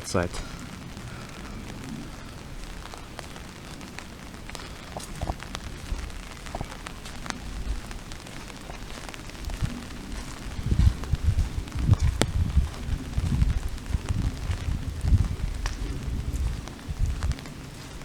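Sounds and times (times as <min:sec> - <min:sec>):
low rumble: 0:00.0 - 0:18.0
steady rain: 0:00.0 - 0:18.0.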